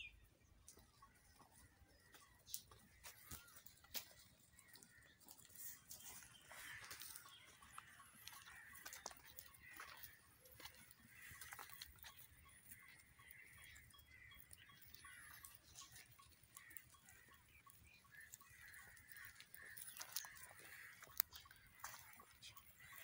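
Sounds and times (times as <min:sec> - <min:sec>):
faint bird calls: 0:00.0 - 0:23.0.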